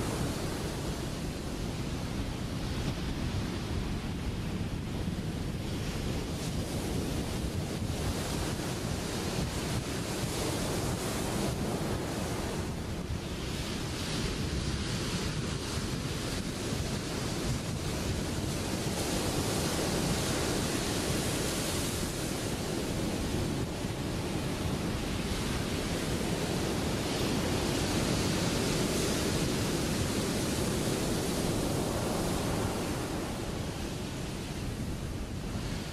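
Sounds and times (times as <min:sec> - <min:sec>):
ocean waves breaking: 0:00.0 - 0:35.9.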